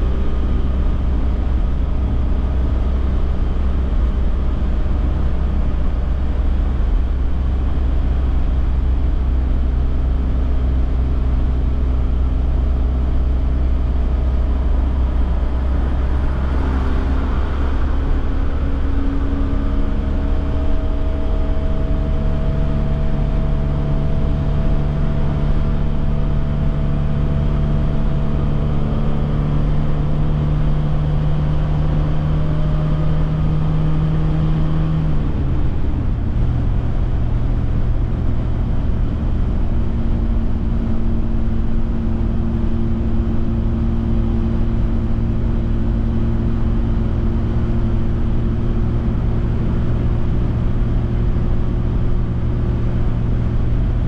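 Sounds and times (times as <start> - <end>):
car engine cruising: 0.0 - 54.0
road and wind rumble: 0.0 - 54.0.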